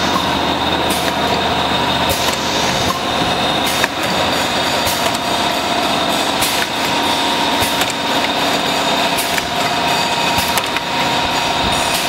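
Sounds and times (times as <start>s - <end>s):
machine hum: 0.0s - 12.0s
sharp mechanical clicks: 2.1s - 12.0s.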